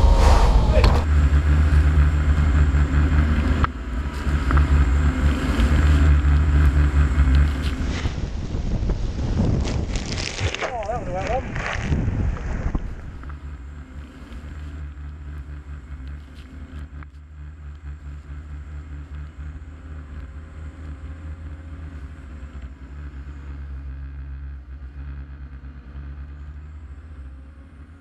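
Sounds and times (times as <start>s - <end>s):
boat engines droning: 0.0s - 9.6s, 12.8s - 28.0s.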